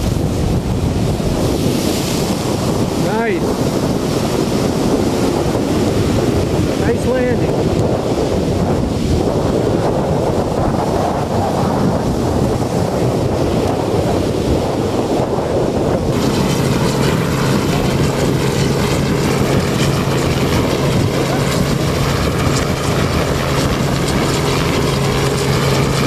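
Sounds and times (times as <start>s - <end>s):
breaking surf: 0.0s - 26.0s
helicopter hum: 0.0s - 26.0s
wind buffeting microphone: 0.0s - 26.0s.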